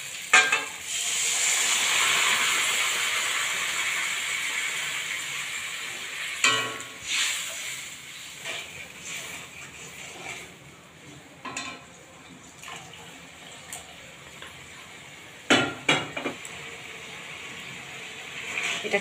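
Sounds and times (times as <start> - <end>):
water hissing and sizzling in oil: 0.0 - 10.9, 12.4 - 19.0.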